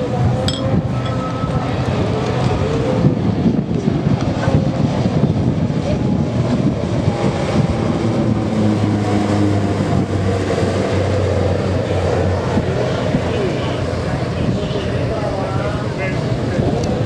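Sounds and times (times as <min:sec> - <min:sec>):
propeller aircraft droning: 0:00.0 - 0:17.0.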